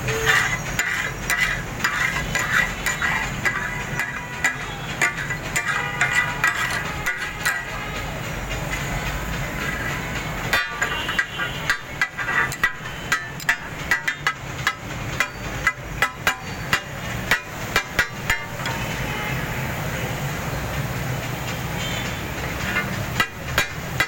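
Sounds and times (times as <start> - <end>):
metal spatulas clacking on griddle: 0.0 - 18.9, 22.3 - 24.0.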